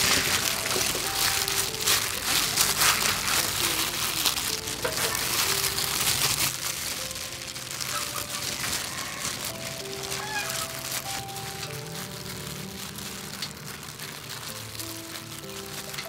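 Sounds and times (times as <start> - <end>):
gloved hands crinkling wet chilies: 0.0 - 16.0.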